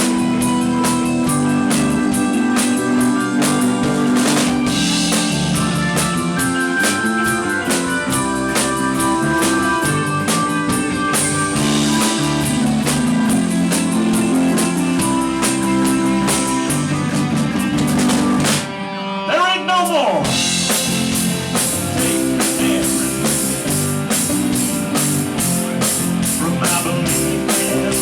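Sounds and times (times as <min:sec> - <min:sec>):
rock band playing instrumental: 0:00.0 - 0:28.0.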